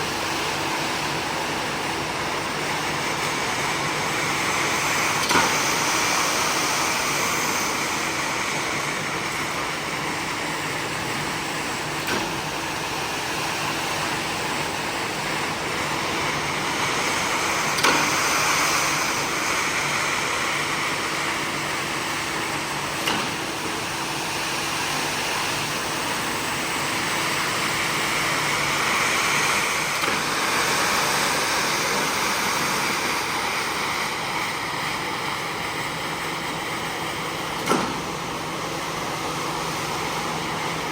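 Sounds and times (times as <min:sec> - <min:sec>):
carpet cleaning machine hum: 0:00.0 - 0:40.9.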